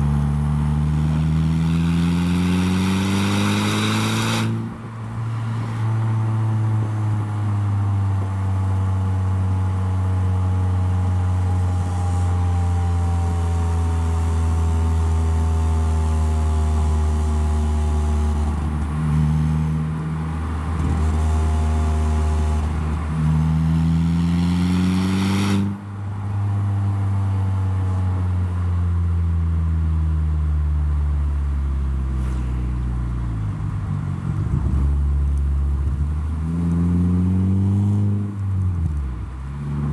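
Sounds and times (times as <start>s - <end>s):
car engine drone while driving: 0.0s - 39.9s.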